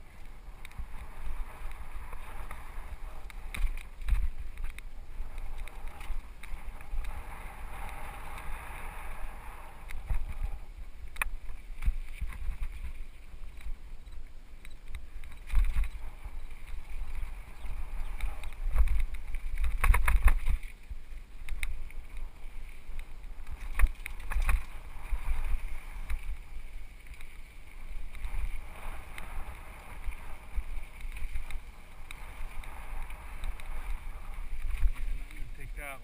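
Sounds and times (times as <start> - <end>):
bike rattling over rocks: 0.0 - 8.8, 10.0 - 13.8, 15.0 - 36.0
wind rumbling on camera: 0.0 - 36.0.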